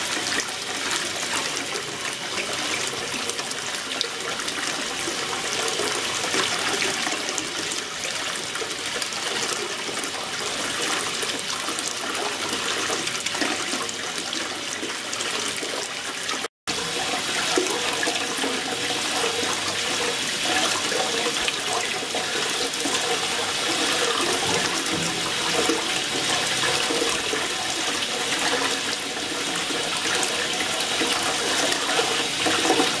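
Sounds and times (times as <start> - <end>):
water churning in ultrasonic tank: 0.0 - 33.0.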